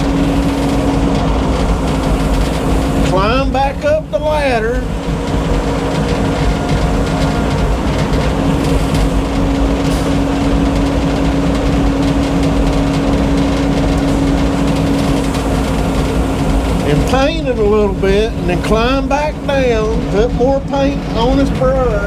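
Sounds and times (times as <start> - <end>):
sawmill mechanical hum: 0.0 - 22.0.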